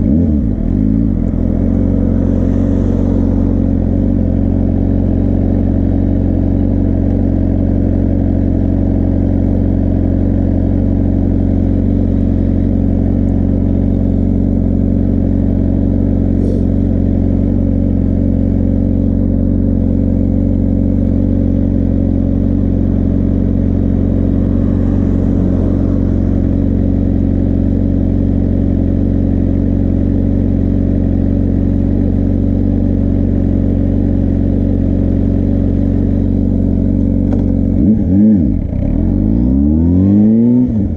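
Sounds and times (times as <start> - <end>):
motorcycle engine idling: 0.0 - 39.2.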